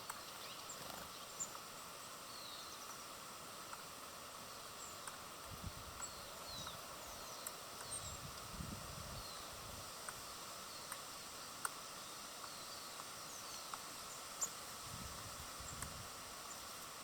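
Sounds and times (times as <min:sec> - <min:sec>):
small birds chirping: 0:00.0 - 0:17.0
steady hiss: 0:00.0 - 0:17.0.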